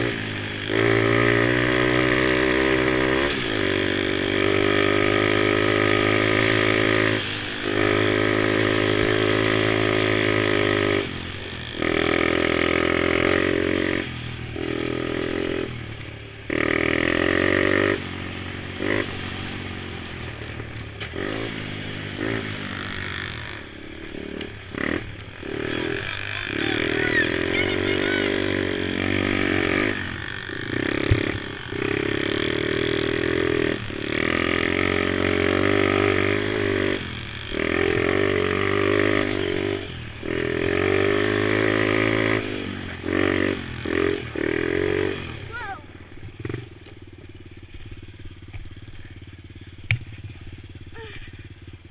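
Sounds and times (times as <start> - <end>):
small engines buzzing at high revs: 0.0 - 46.8.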